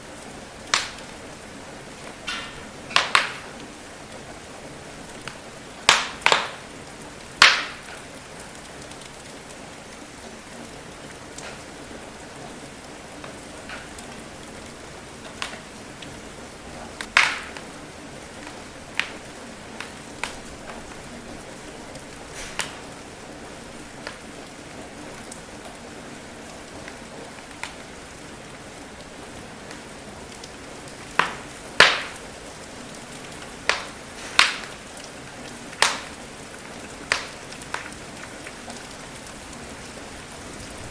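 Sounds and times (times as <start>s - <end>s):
rain hiss: 0.0s - 40.9s
wood fire crackling: 0.0s - 40.9s.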